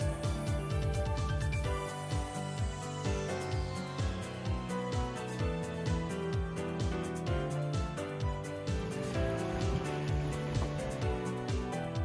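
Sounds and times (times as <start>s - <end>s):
music with kick-drum beat: 0.0s - 12.0s.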